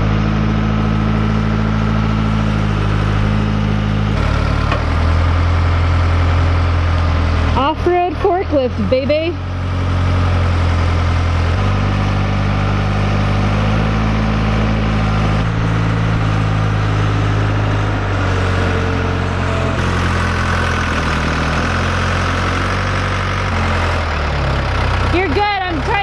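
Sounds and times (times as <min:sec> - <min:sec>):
forklift engine running: 0:00.0 - 0:26.0.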